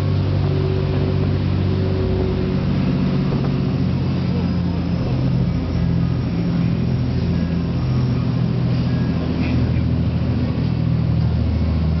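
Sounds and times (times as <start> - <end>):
boat engines droning: 0.0 - 12.0
rushing water and wind: 0.0 - 12.0.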